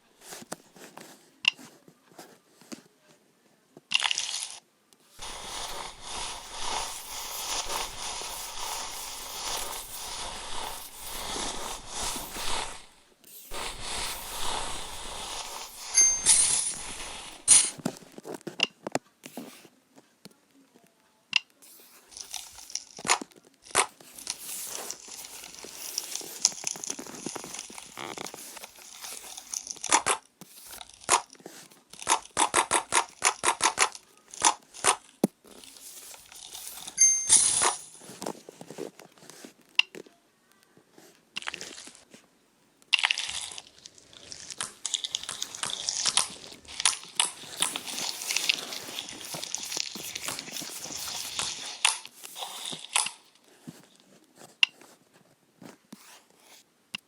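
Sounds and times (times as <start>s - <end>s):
slime rustling: 3.9s - 18.5s, 21.6s - 39.8s, 40.9s - 42.3s, 42.9s - 56.6s.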